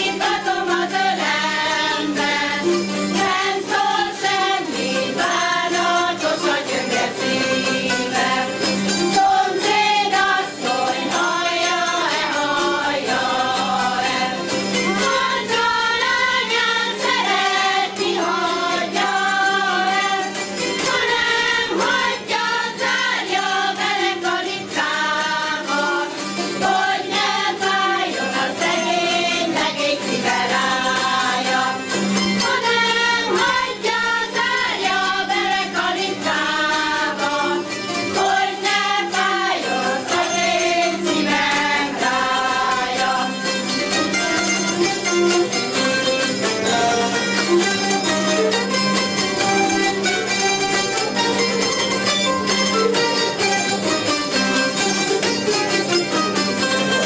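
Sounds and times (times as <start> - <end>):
women's choir singing folk song: 0.0 - 49.7
zither ensemble strumming: 0.0 - 57.0.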